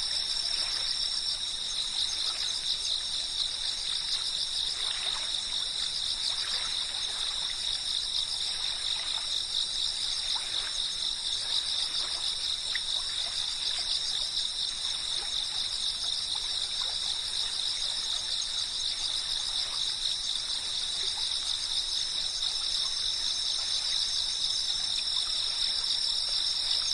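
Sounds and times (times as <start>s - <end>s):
insects chirping trill: 0.0s - 26.9s.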